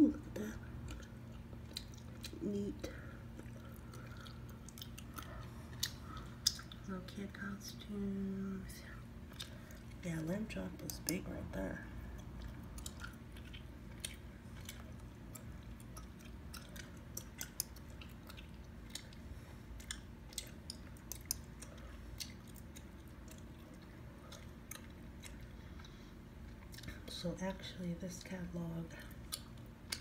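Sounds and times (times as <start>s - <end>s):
low steady hum: 0.0s - 30.0s
gum chewing wet clicks: 0.5s - 7.4s, 9.1s - 11.3s, 12.0s - 27.1s, 29.1s - 30.0s.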